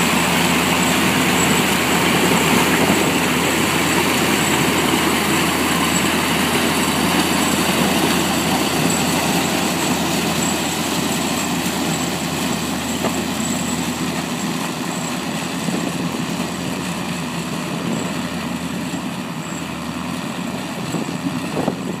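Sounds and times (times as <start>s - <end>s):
corn picker mechanical noise: 0.0s - 22.0s
tractor engine running under load: 0.0s - 22.0s.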